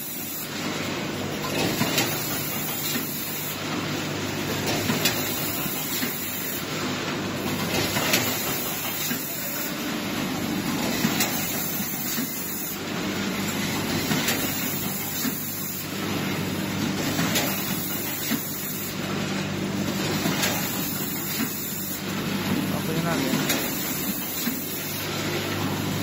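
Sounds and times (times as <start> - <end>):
packing machine humming and hissing: 0.0 - 26.0.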